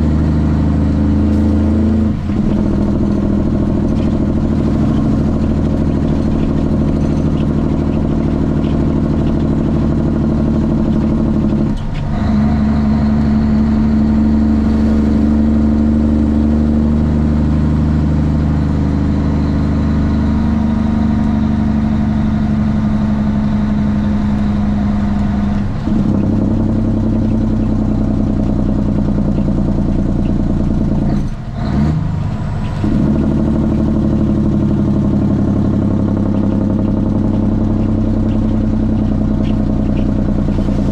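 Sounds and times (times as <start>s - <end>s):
loud diesel truck engine: 0.0s - 40.9s.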